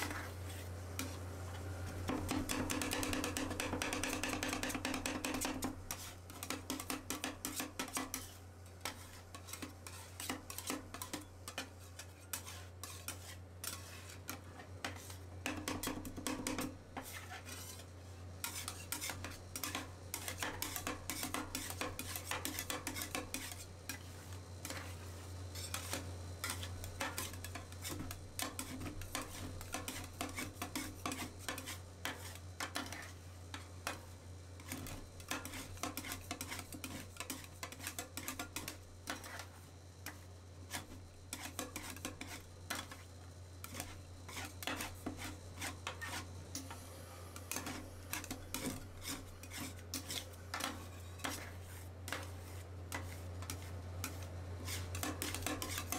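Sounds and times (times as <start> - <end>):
metal spatulas scraping and tapping: 0.0 - 46.8, 47.4 - 55.9
steady low hum: 0.0 - 55.9.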